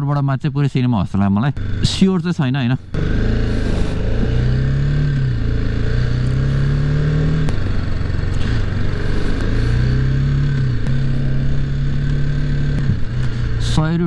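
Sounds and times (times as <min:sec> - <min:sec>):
wind and road noise: 0:00.0 - 0:14.0
motorcycle engine shifting gears: 0:01.5 - 0:02.0, 0:02.8 - 0:14.0.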